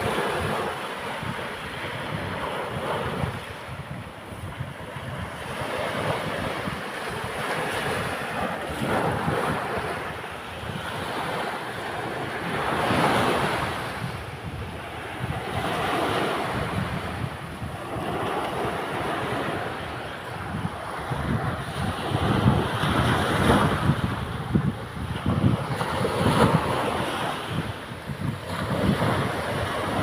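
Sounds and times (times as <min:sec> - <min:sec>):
sea waves breaking on a beach: 0:00.0 - 0:30.0
wind rumble on microphone: 0:00.0 - 0:30.0.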